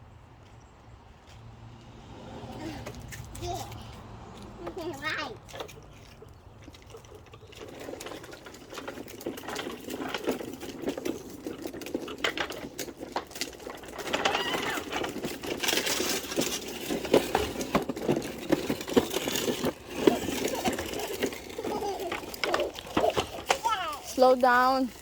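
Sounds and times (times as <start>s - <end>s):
plastic wheels rattling on rough ground: 0.4s - 25.0s.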